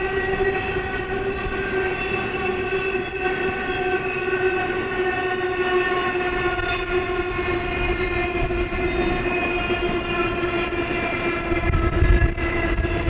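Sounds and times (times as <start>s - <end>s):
freight train rolling past: 0.0s - 13.0s
long steady droning tone: 0.0s - 13.0s.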